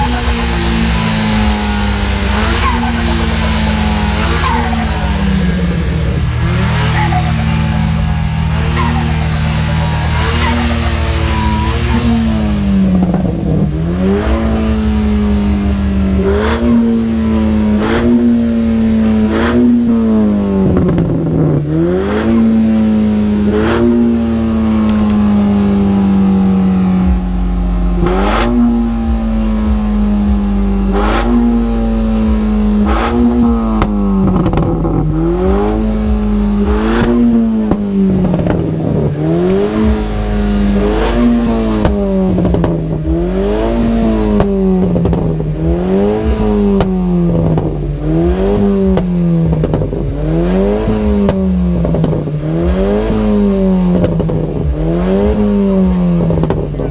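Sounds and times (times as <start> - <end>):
car engine revving with cracks: 0.0 - 56.9.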